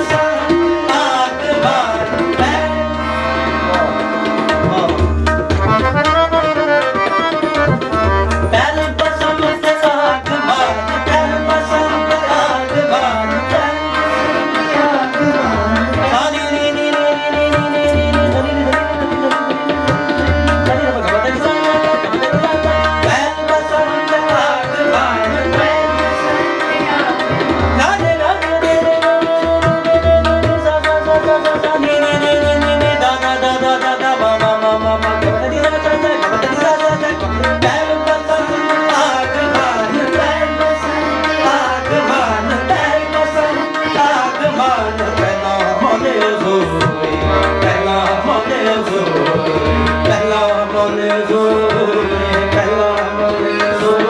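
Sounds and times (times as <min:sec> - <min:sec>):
harmoniums holding chords: 0:00.0 - 0:54.0
person singing: 0:00.0 - 0:54.0
tabla drumming: 0:00.0 - 0:54.0.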